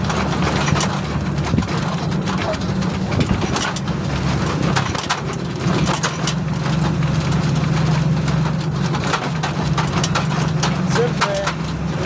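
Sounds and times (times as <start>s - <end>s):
light rattles: 0.0s - 12.0s
truck engine droning: 0.0s - 12.0s.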